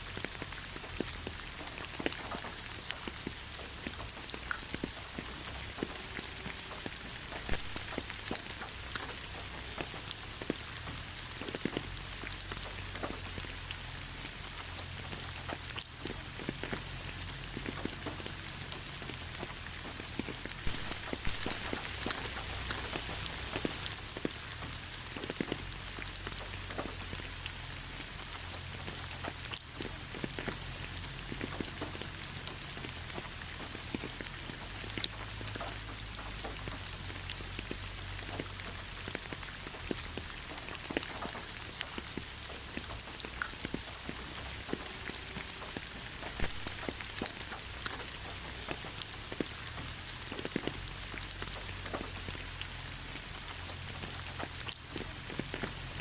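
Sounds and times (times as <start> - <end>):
raindrops ticking: 0.0 - 56.0
steady rain falling: 0.0 - 56.0.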